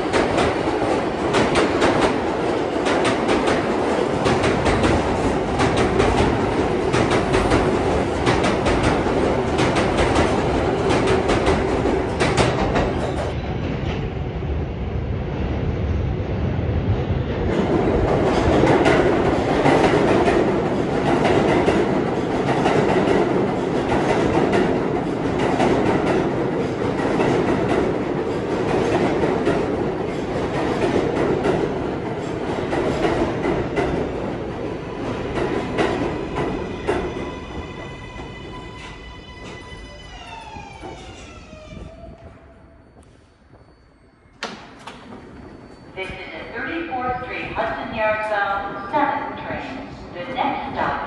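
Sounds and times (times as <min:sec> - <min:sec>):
subway train wheels rumbling: 0:00.0 - 0:51.0.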